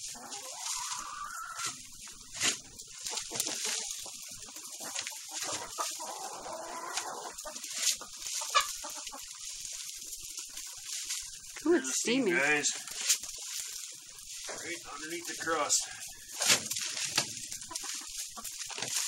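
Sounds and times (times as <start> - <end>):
hens clucking: 0.0 - 19.0
pitchfork scraping through compost: 0.0 - 19.0.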